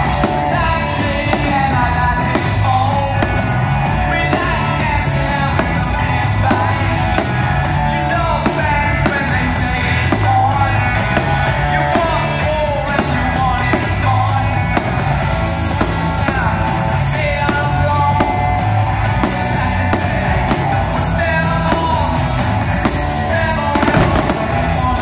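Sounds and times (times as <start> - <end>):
bass: 0.0 - 25.0
drum beat: 0.0 - 25.0
rock song with singer: 0.0 - 25.0.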